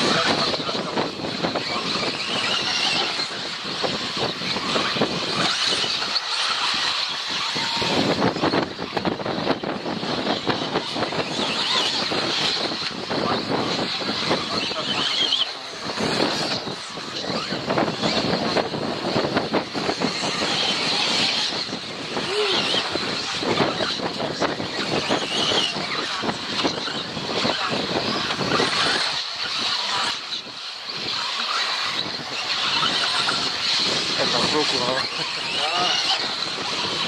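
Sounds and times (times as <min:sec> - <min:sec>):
constant rushing noise: 0:00.0 - 0:37.0
rc car motor whine: 0:00.0 - 0:37.0.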